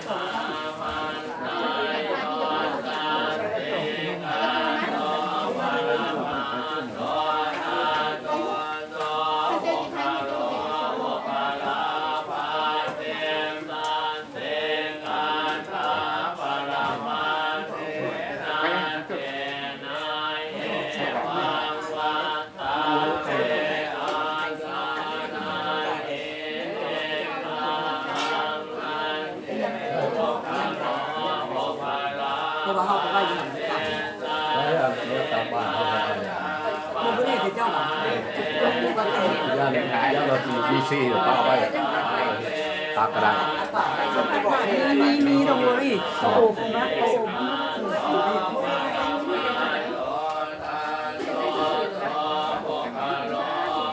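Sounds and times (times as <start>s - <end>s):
group of voices chanting: 0.0s - 53.9s.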